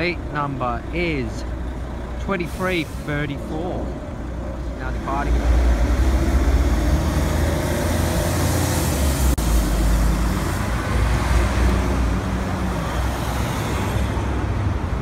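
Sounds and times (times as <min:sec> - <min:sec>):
bus diesel engine pulling away: 0:00.0 - 0:15.0
road traffic: 0:00.0 - 0:15.0
cars passing close by: 0:01.3 - 0:15.0.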